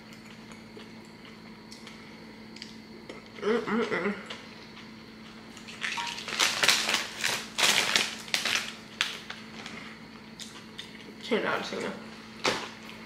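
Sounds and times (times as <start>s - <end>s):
chewing tortilla chips: 0.0s - 11.2s.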